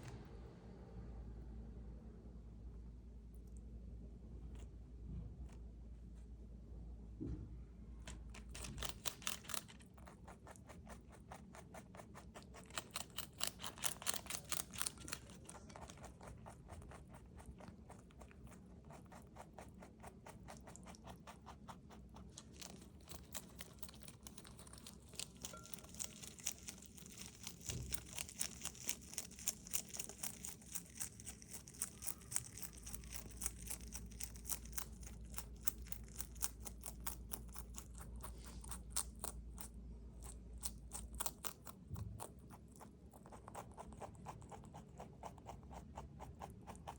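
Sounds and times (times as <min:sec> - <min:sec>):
rabbit chewing crisp greens: 0:00.0 - 0:02.0, 0:02.6 - 0:06.9, 0:07.6 - 0:46.9.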